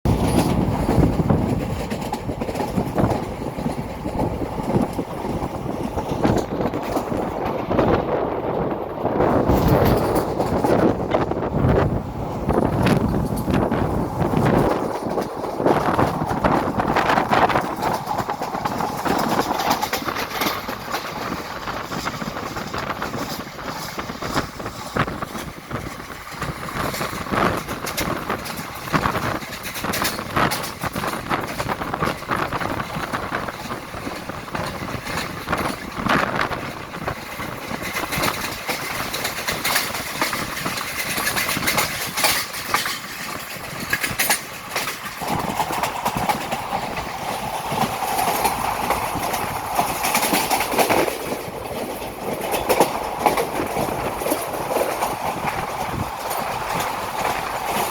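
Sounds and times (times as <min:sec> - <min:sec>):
train rumbling along track: 0:00.0 - 0:57.9
wheels clicking on rails: 0:00.1 - 0:57.9.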